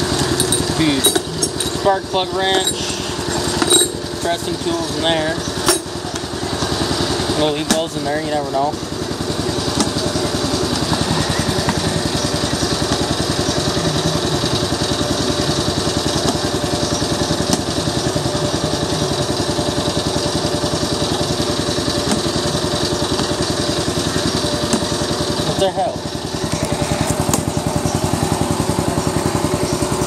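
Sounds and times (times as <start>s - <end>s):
mini bike engine idling: 0.0s - 30.0s.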